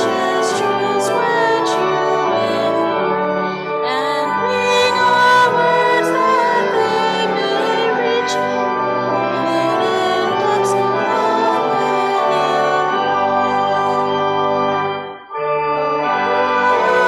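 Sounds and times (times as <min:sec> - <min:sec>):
person singing a hymn: 0:00.0 - 0:15.0, 0:16.0 - 0:17.0
instrumental held chords: 0:00.0 - 0:17.0.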